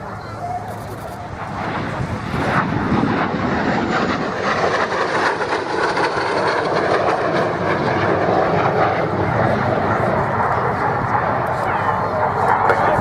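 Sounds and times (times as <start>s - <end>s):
faint falling jet whine: 0.0s - 13.0s
jet roaring past: 0.0s - 13.0s.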